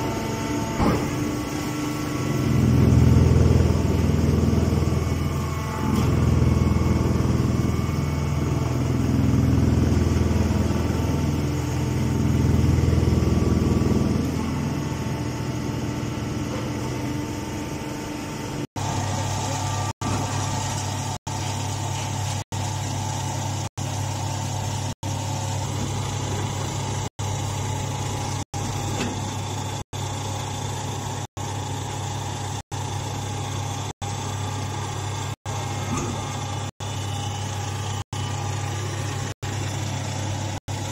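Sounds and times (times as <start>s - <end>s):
baler motor and pump humming: 0.0s - 40.9s.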